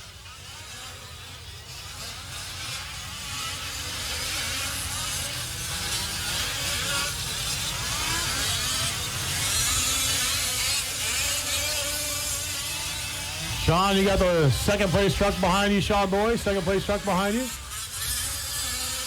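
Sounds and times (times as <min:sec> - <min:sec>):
small two-stroke engines buzzing: 0:00.0 - 0:19.0.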